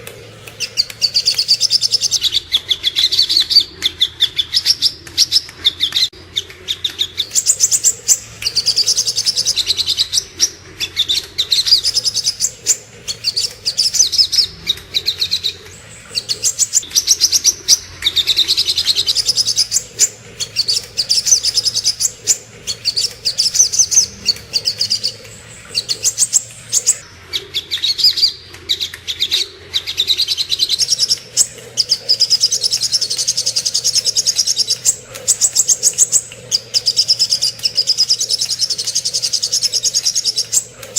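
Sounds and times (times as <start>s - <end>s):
bird chattering trills: 0.0s - 40.9s.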